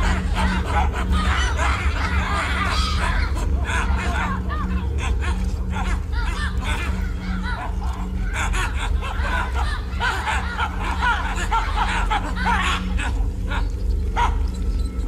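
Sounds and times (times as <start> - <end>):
laugh-like chattering calls: 0.0 - 15.0.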